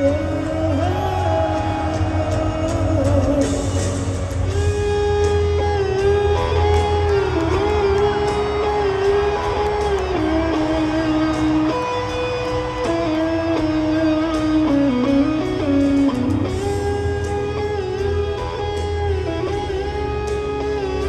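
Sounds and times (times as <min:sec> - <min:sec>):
electric guitar lead line: 0:00.0 - 0:21.0
rock band playing a ballad: 0:00.0 - 0:21.0.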